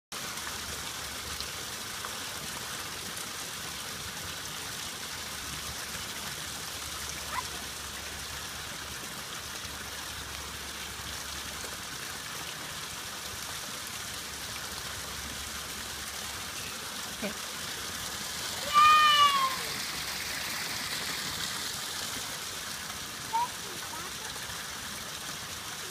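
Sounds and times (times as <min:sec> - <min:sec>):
fountain splashing into pool: 0:00.1 - 0:25.9.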